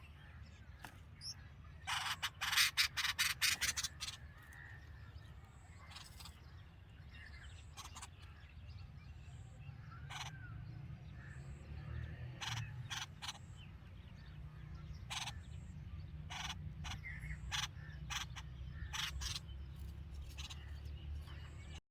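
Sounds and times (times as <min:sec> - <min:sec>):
harsh rasping bird calls: 0:00.0 - 0:21.8.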